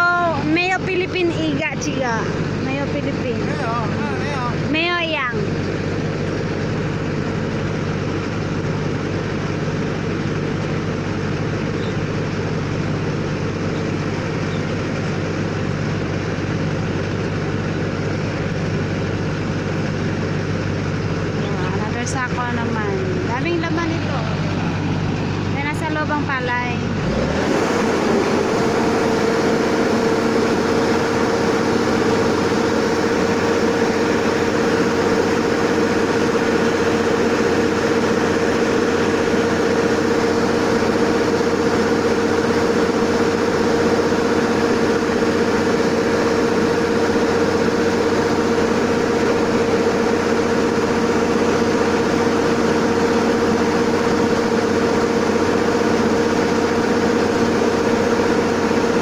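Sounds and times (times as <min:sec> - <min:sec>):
combine harvester running: 0:00.0 - 0:59.0
constant machine whine: 0:00.0 - 0:59.0.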